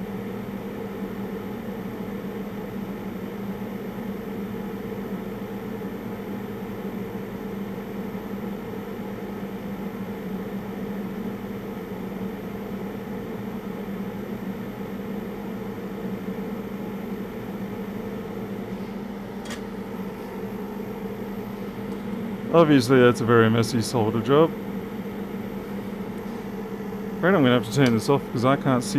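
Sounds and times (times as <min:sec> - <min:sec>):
extractor fan hum: 0:00.0 - 0:28.9.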